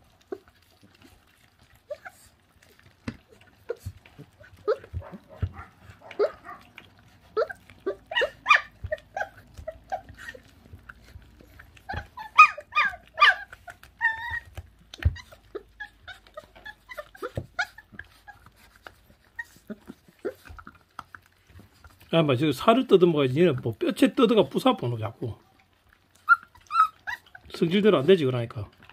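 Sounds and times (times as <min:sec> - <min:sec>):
puppy whines: 0:00.0 - 0:22.1, 0:25.4 - 0:28.1
puppies chewing meat: 0:00.0 - 0:28.9.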